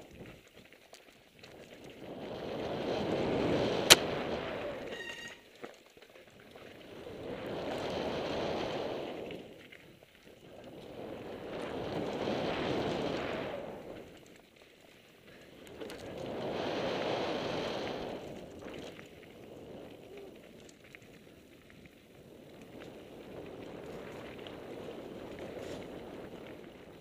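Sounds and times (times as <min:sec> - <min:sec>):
bike tyres rolling over dirt: 0:00.0 - 0:27.0
wind rush on microphone: 0:01.5 - 0:05.3, 0:06.7 - 0:14.4, 0:15.2 - 0:27.0.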